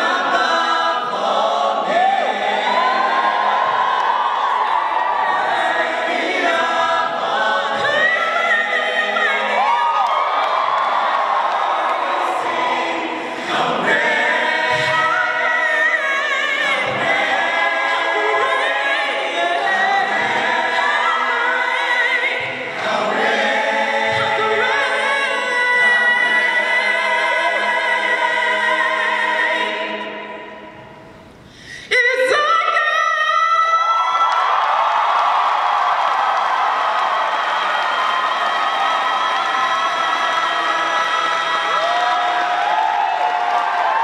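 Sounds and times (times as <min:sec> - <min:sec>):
choir singing a cappella: 0:00.0 - 0:31.0, 0:36.5 - 0:44.0.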